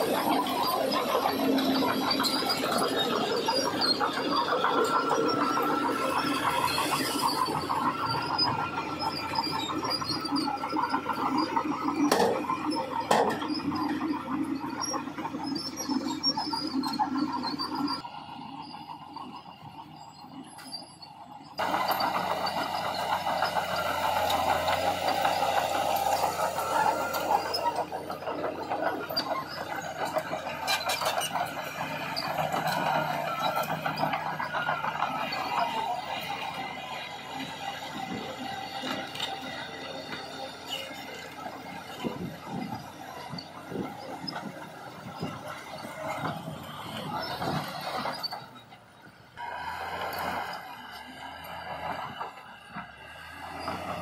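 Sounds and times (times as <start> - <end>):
bulldozer engine running: 0.0 - 54.0
steel tracks squealing: 0.0 - 54.0.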